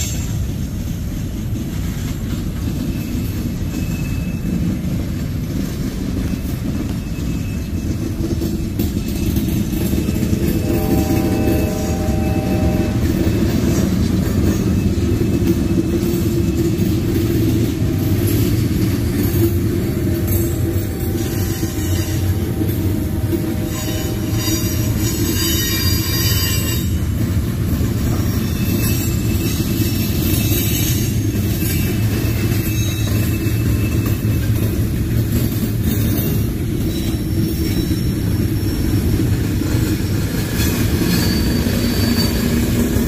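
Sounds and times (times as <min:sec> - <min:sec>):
freight train wheels rumbling: 0:00.0 - 0:43.0
wheel squeal: 0:02.6 - 0:05.0, 0:06.2 - 0:27.2, 0:27.8 - 0:43.0.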